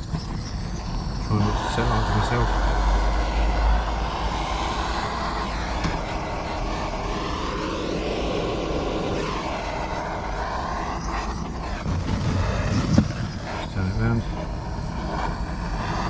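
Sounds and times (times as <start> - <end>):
blowtorch flame roaring: 0.0 - 16.0.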